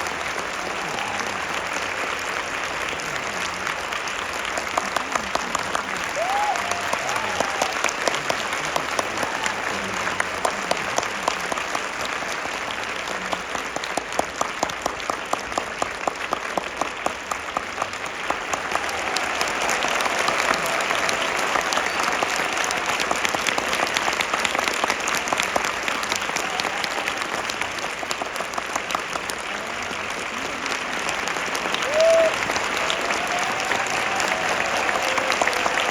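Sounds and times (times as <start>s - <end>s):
audience applauding: 0.0s - 35.9s
close sharp claps: 0.0s - 35.9s.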